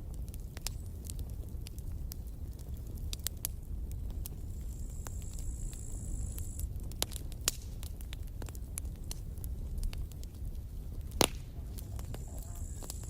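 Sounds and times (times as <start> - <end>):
campfire crackles and pops: 0.0 - 13.0
low rumble of flames: 0.0 - 13.0.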